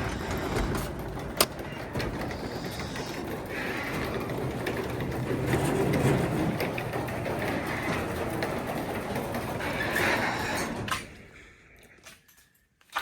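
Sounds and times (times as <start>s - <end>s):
garage door opener motor rumble: 0.0s - 11.3s
door rattling up tracks: 0.0s - 11.4s.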